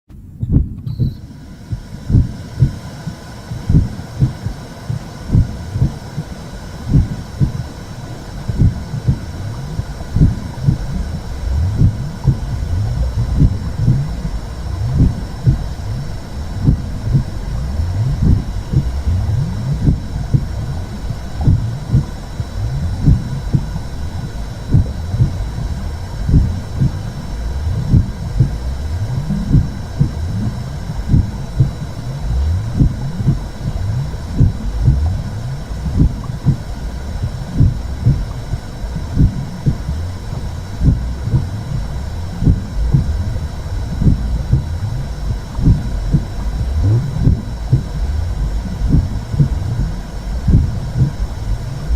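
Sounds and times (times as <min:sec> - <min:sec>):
steady low rumble: 0:00.0 - 0:51.9
muffled heartbeat thumps: 0:00.1 - 0:51.9.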